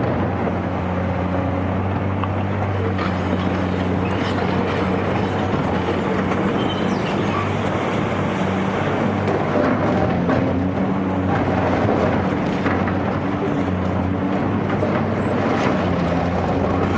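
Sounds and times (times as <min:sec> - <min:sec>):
diesel engine running under load: 0:00.0 - 0:16.9.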